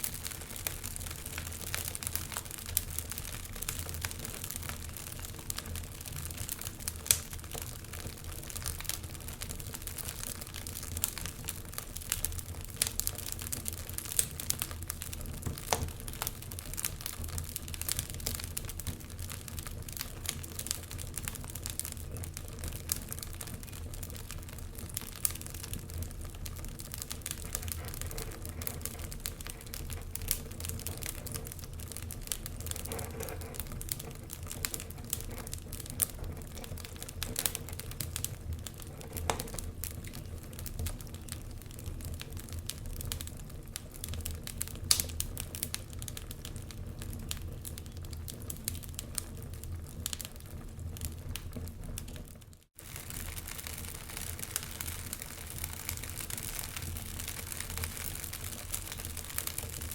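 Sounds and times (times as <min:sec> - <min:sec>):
fire crackling and popping: 0:00.0 - 0:59.9
low fire rumble: 0:00.0 - 0:59.9.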